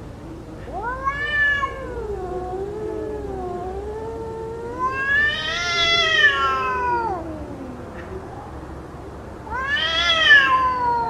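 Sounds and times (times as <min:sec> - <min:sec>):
cats yowling: 0:00.3 - 0:08.7, 0:09.4 - 0:11.0.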